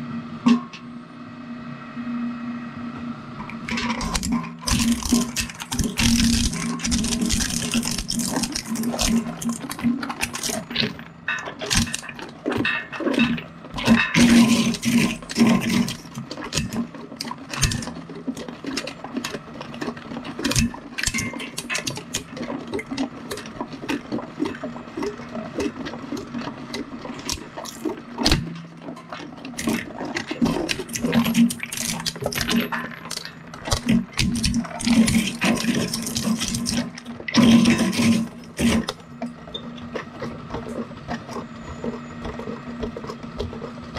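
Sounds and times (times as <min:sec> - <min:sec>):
motor hum: 0:02.0 - 0:43.9
shredder cracking and crunching: 0:03.6 - 0:43.9.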